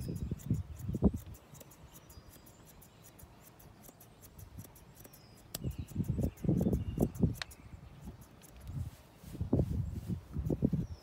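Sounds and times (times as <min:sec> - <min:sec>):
shears snipping through fur: 0:00.0 - 0:11.0.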